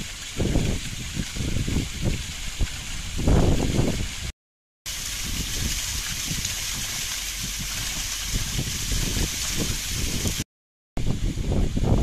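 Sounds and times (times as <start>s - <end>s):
waterfall splashing on stone: 0.0s - 4.3s, 4.9s - 10.5s.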